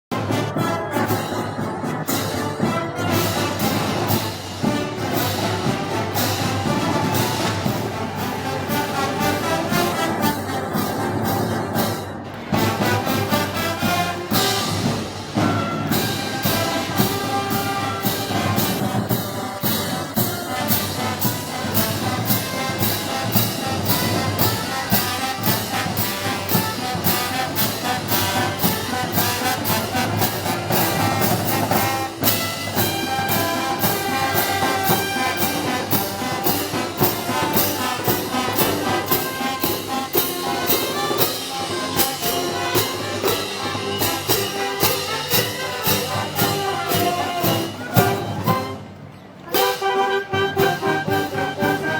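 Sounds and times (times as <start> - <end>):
trumpets and trombones: 0.0 - 51.9
percussion beat: 0.1 - 51.9.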